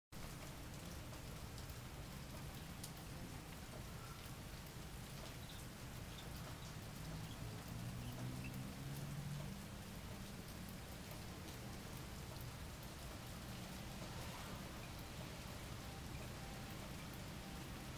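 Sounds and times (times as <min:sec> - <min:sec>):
steady rain falling: 0:00.1 - 0:17.9.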